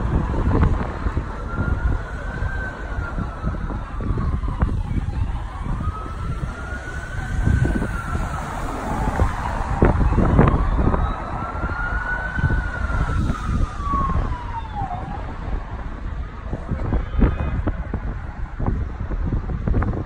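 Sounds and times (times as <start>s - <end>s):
siren wailing: 0.0s - 19.8s
wind rumbling on microphone: 0.0s - 20.0s.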